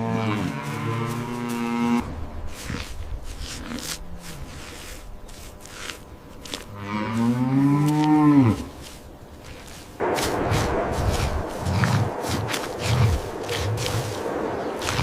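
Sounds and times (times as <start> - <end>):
rough noisy sound: 0.8 - 15.0.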